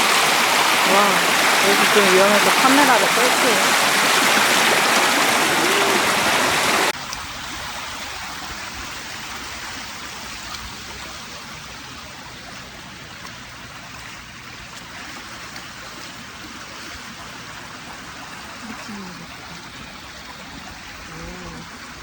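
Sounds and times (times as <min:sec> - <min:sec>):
rainwater rushing down footpath: 0:00.0 - 0:22.0.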